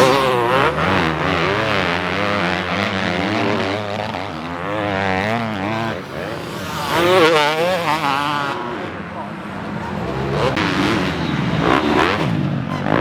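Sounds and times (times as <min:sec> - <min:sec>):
motocross bikes racing: 0:00.0 - 0:13.0.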